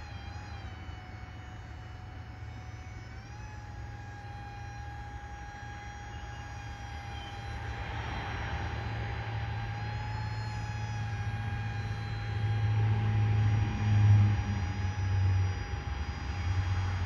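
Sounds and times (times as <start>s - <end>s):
motor and propeller whine: 0.0s - 17.0s.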